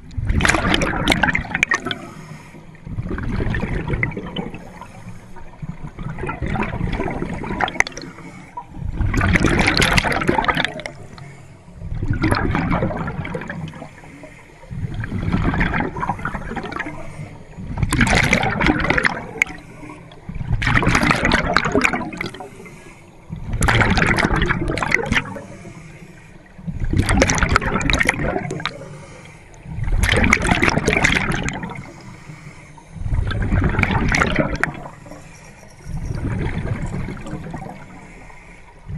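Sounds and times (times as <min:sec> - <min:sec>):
exhaled bubbles underwater: 0:00.0 - 0:32.2, 0:32.8 - 0:38.9.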